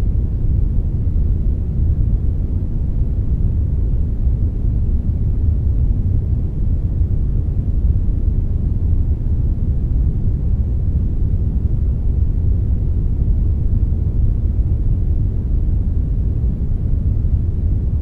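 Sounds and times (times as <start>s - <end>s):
deep rumbling brown noise: 0.0s - 18.0s.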